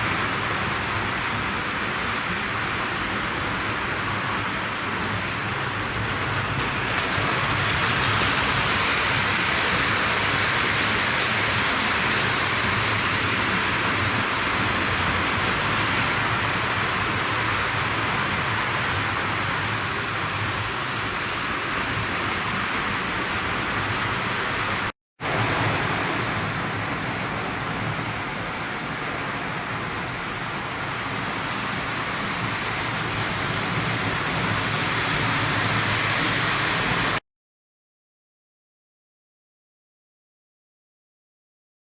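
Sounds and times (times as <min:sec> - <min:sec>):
wheels rolling on rails: 0:00.0 - 0:24.9, 0:25.8 - 0:37.2.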